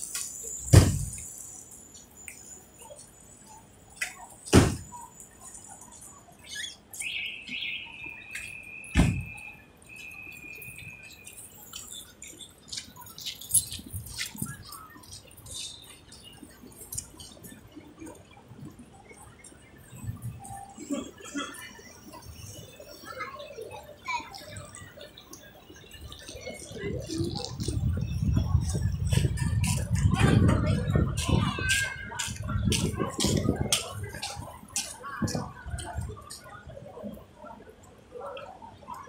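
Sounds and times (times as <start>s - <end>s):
street ambience: 0.0s - 39.0s.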